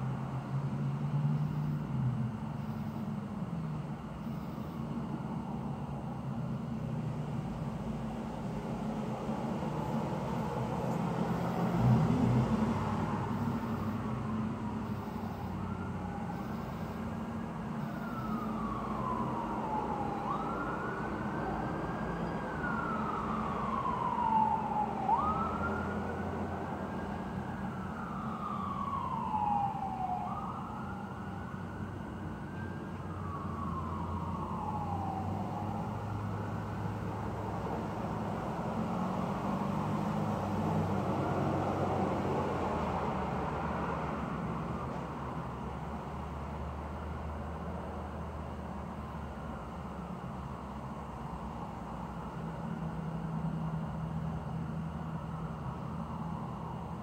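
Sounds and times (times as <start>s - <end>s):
emergency vehicle siren wailing: 0.0s - 57.0s.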